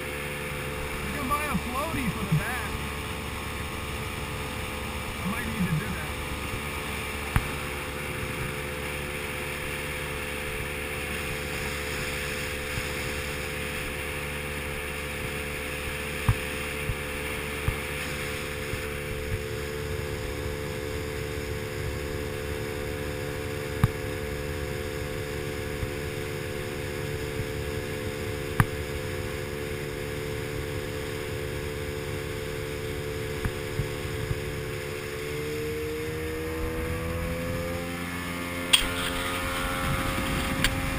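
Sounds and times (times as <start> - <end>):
outboard motor running: 0.0 - 40.9
water rushing past hull: 0.0 - 40.9.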